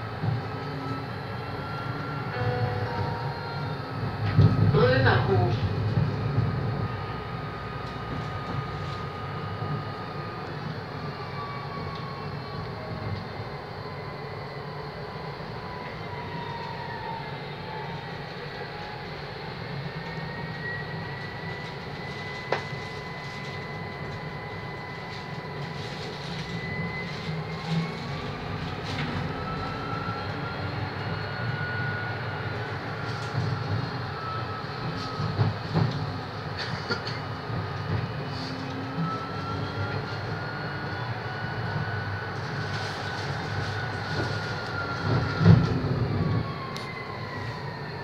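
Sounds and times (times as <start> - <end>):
tram wheels rumbling on rail: 0.0 - 48.0.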